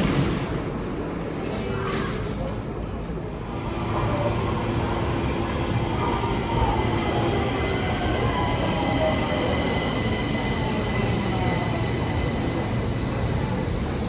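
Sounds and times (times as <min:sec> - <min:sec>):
train rail noise: 0:00.0 - 0:14.0.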